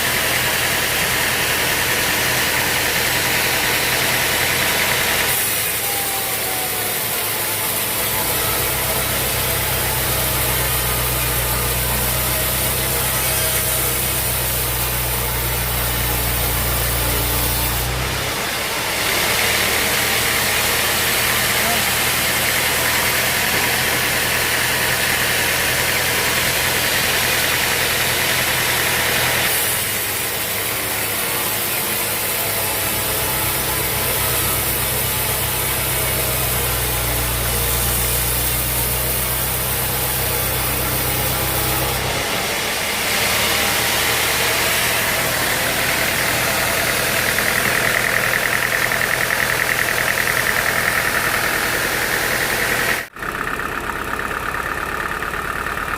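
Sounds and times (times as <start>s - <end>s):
sawmill engine humming: 0.0s - 55.9s.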